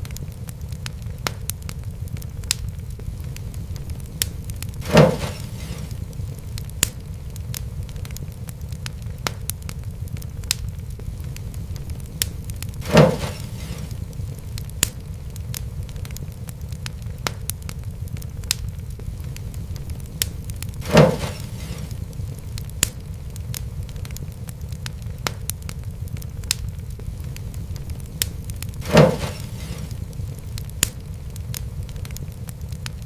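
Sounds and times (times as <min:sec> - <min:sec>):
loud fire pops: 0:00.0 - 0:33.0
low rumble of flame: 0:00.0 - 0:33.0
wood fire crackling and snapping: 0:00.0 - 0:33.0.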